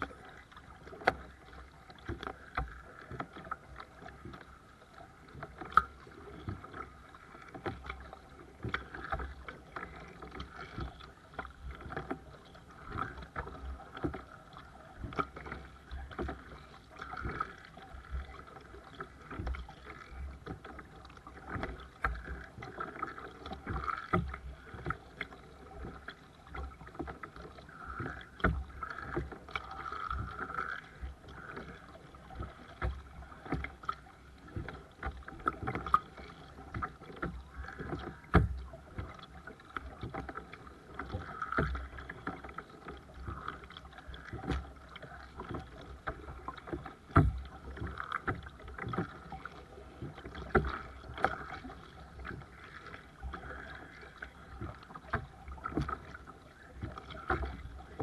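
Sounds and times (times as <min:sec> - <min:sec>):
paddle splashing: 0:00.0 - 0:58.0
water slapping kayak hull: 0:00.0 - 0:58.0.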